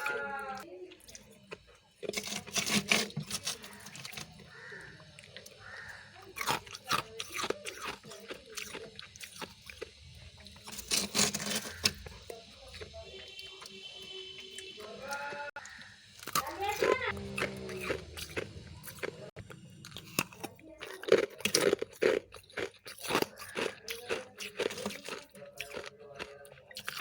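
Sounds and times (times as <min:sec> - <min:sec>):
crunching ice in mouth: 0:01.0 - 0:27.0.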